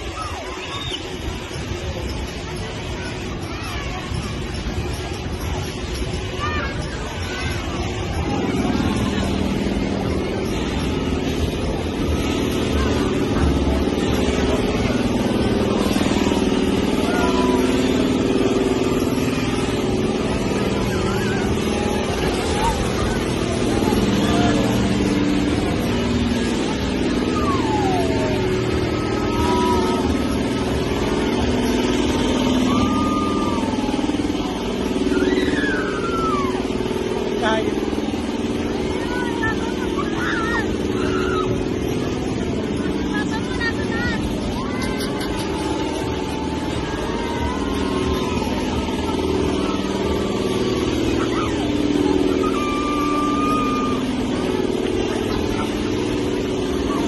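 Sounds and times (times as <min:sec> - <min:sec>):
engine humming: 0:00.0 - 0:57.0
rippling motor drone: 0:00.0 - 0:57.0.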